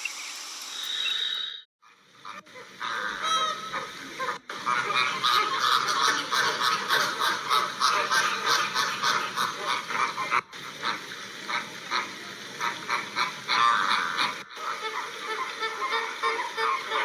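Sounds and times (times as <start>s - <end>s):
flamingos honking calls: 1.8s - 17.0s.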